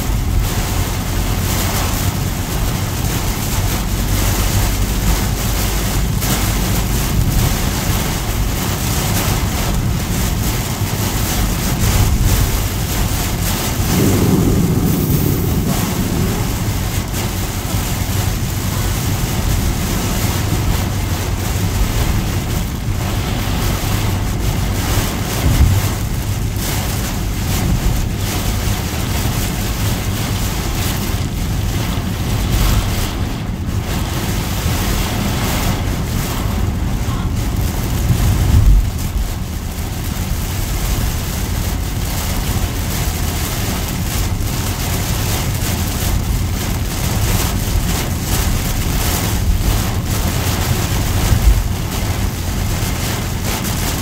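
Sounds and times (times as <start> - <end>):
heavy rain on car roof: 0.0 - 54.0
tyre and road noise: 0.0 - 54.0.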